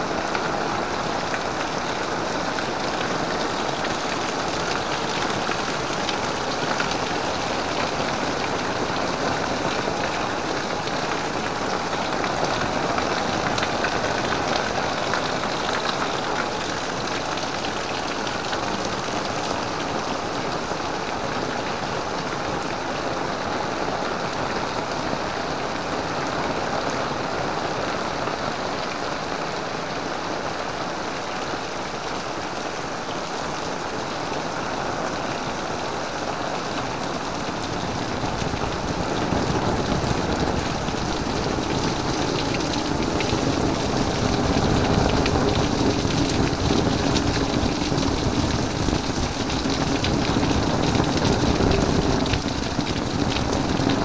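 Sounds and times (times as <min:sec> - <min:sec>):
heavy rain on umbrella: 0:00.0 - 0:54.0.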